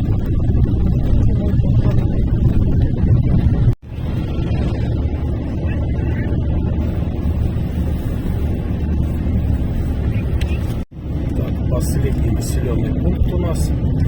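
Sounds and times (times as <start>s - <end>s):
car rumble inside cabin: 0.0s - 14.0s.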